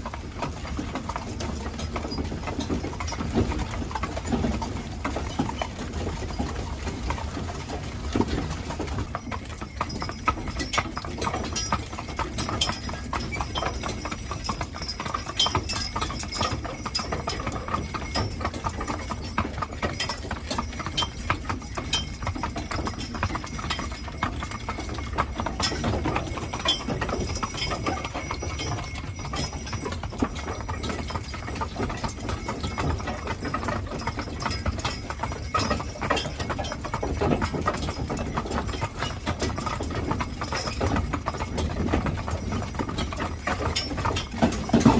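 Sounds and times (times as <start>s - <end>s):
horse hooves clip-clopping: 0.0s - 44.9s.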